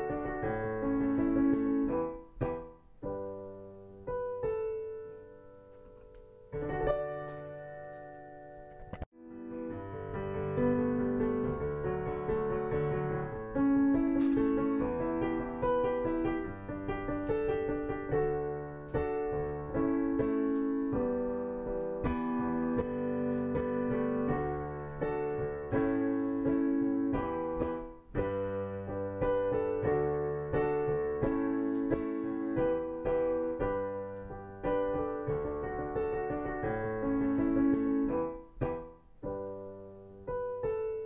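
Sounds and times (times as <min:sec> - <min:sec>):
background piano music: 0:00.0 - 0:41.0.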